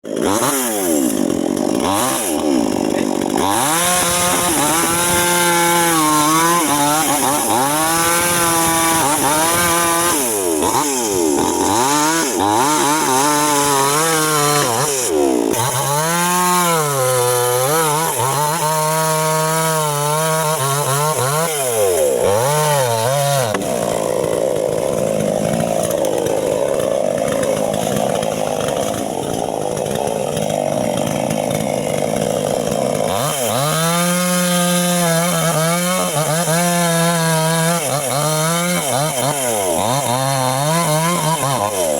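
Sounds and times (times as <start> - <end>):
chainsaw cutting wood: 0.0 - 41.9
chainsaw engine revving: 0.0 - 41.9.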